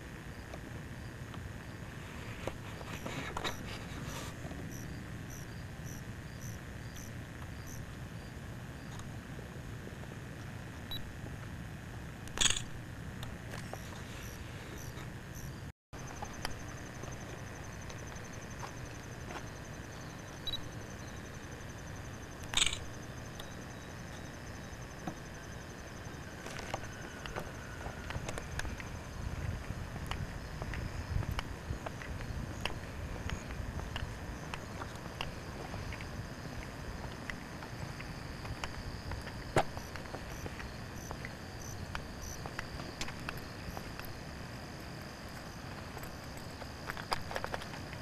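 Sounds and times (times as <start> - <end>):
camera hiss with motor whine: 0.0 - 48.0.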